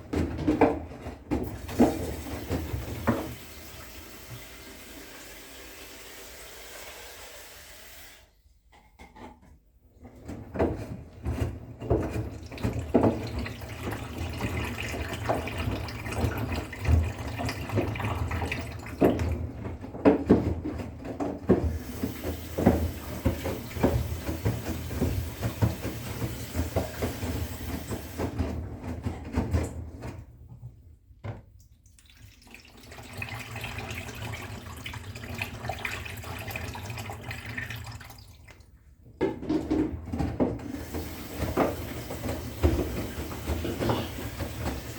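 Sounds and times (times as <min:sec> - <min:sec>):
washing machine running: 0:00.0 - 0:08.4, 0:10.1 - 0:30.4, 0:32.1 - 0:38.5, 0:39.3 - 0:44.9.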